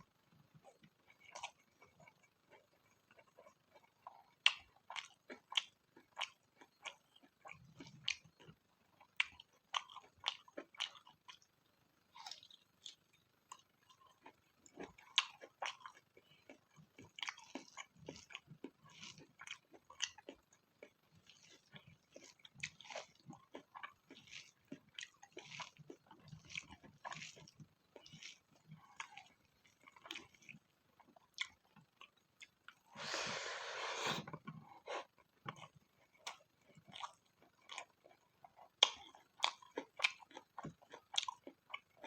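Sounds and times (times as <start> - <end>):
person chewing crunchy food: 0.0 - 42.0.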